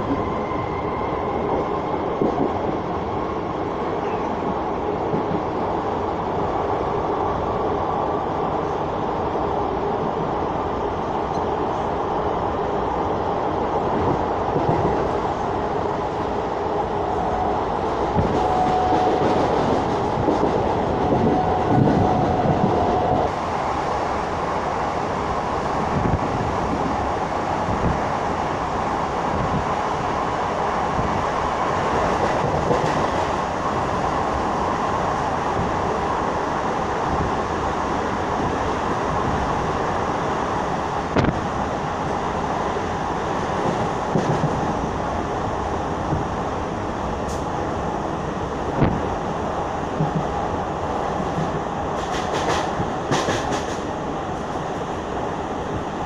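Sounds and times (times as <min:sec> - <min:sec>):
train carriage rumble and rattle: 0:00.0 - 0:56.0.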